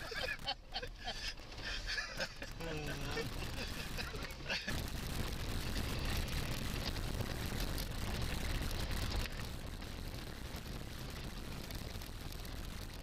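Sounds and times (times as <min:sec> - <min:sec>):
car engine and tyres on gravel: 0:00.0 - 0:13.0.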